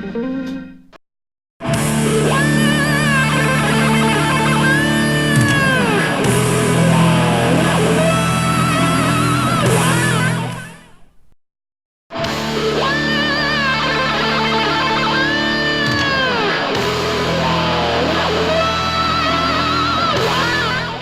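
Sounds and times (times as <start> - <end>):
heavy metal music through speaker: 1.6 - 10.7, 12.1 - 21.0.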